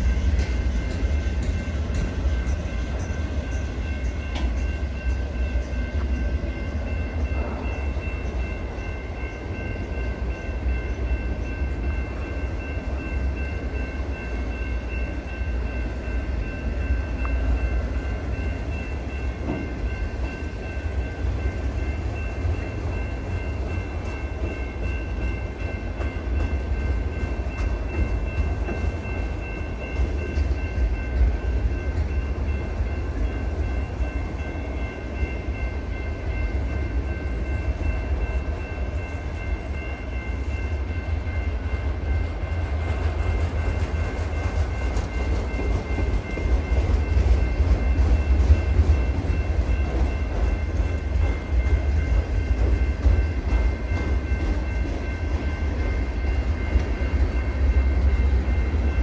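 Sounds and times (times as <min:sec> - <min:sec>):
crossing bell ringing: 0:00.0 - 0:59.0
train wheels rumbling on rail: 0:00.0 - 0:59.0.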